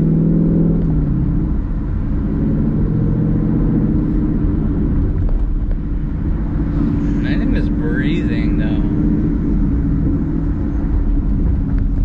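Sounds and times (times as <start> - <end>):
car engine droning: 0.0 - 12.0
road rumble: 0.0 - 12.0.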